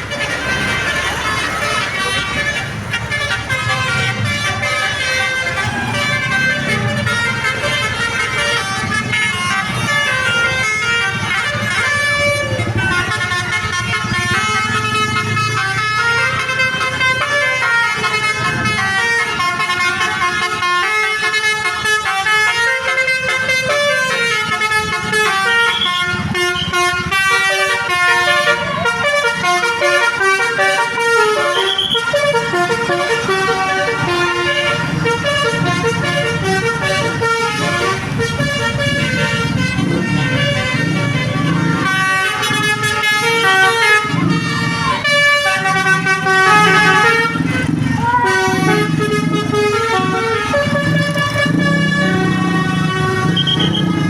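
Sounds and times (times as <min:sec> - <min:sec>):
bus engine running: 0:00.0 - 0:54.0
bus horns playing a melody: 0:00.0 - 0:54.0.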